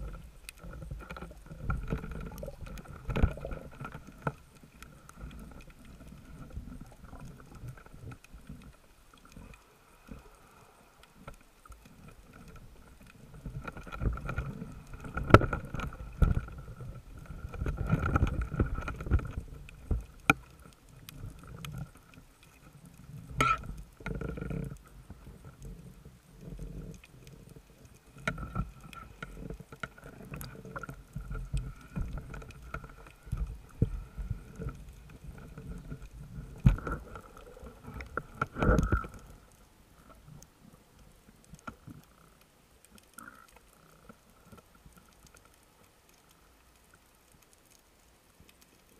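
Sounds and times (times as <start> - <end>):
knocks and clicks underwater: 0.0 - 10.4, 11.0 - 47.8
muffled underwater rumbling: 0.0 - 10.4, 11.1 - 42.4.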